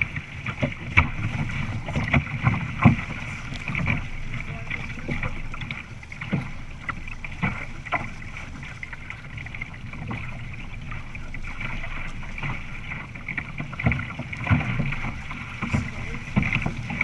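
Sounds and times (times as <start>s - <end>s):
water rushing along a hull: 0.0s - 17.0s
wind rumbling on microphone: 0.0s - 17.0s.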